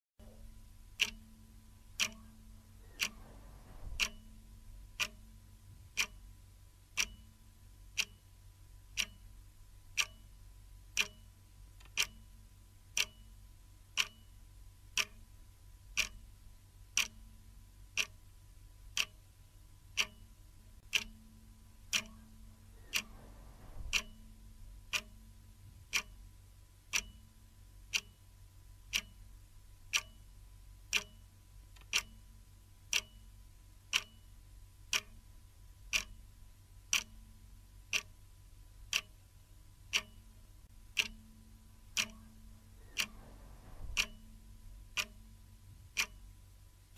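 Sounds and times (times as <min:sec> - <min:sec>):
clock ticking: 0:00.2 - 0:46.9
faint steady hum: 0:00.2 - 0:46.9.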